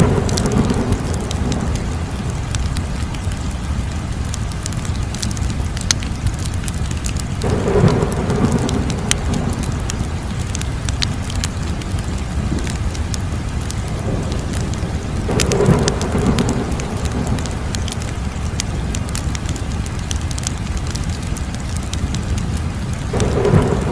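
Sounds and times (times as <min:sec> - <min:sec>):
rushing flame noise: 0:00.0 - 0:23.9
sharp pops from fire: 0:00.0 - 0:23.9
wood fire crackling: 0:00.0 - 0:23.9.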